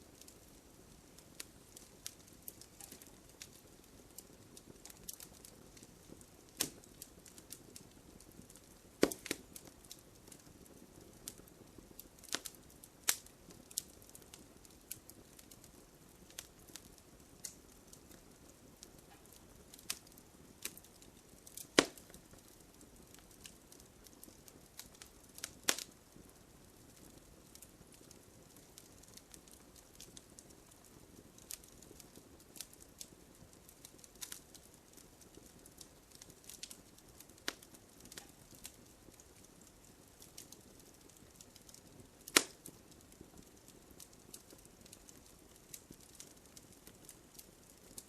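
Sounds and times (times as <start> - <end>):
bonfire crackling: 0.0 - 48.0
faint low hiss: 0.0 - 48.0.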